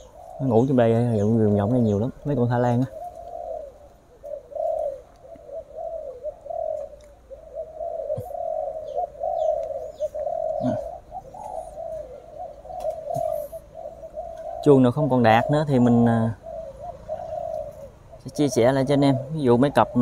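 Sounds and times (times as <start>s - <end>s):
doves cooing: 0.0s - 20.0s.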